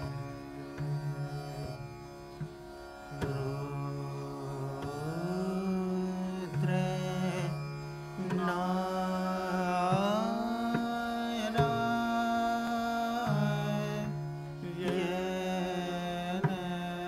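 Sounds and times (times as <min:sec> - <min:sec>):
indian classical music with drone: 0:00.0 - 0:17.0.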